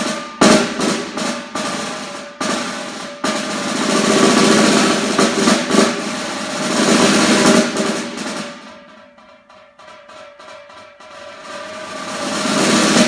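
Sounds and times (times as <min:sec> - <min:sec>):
snare drum roll: 0:00.0 - 0:13.0.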